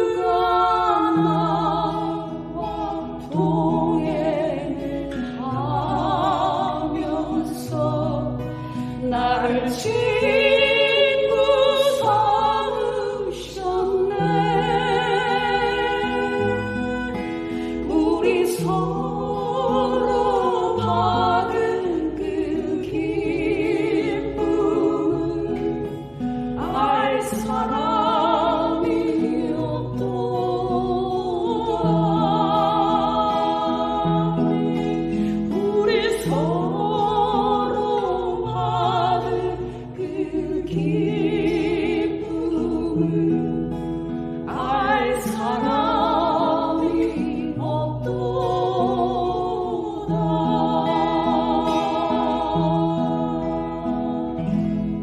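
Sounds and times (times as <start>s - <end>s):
praise song singing with instruments: 0.0s - 55.0s.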